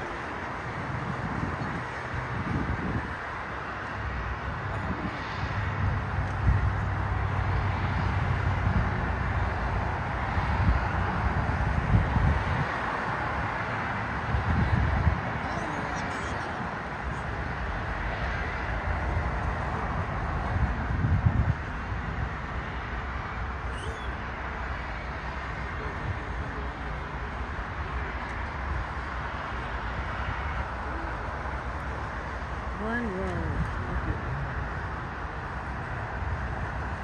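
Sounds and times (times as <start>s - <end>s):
wind buffeting microphone: 0.0s - 24.2s, 28.5s - 37.0s
jet engines hiss and rumble: 0.0s - 37.0s.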